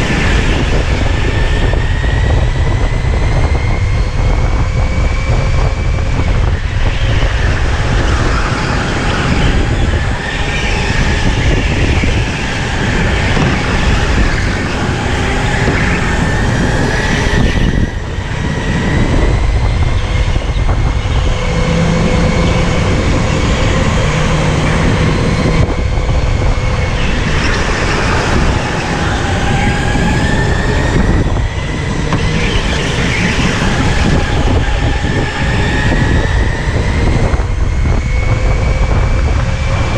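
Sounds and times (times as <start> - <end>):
electric go-kart motor whining: 0.0 - 39.9
low kart rumble: 0.0 - 39.9.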